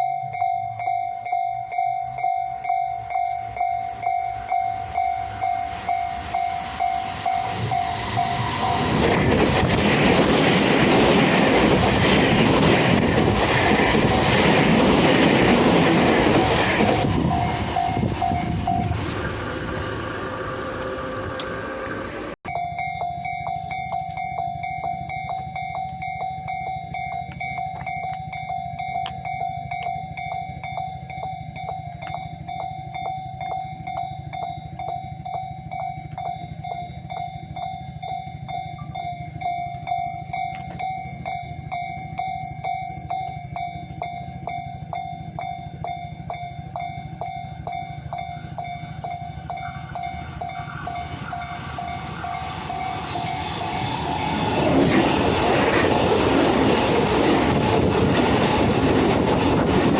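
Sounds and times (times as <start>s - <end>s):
level crossing warning bell: 0.0s - 19.2s, 22.4s - 59.9s
train rushing: 0.0s - 59.9s.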